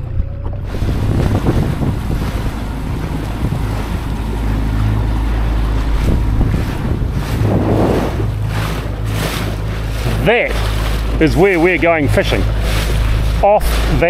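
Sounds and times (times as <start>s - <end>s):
boat motor humming: 0.0s - 14.0s
water rushing past hull: 0.0s - 14.0s
wind buffeting microphone: 0.0s - 14.0s.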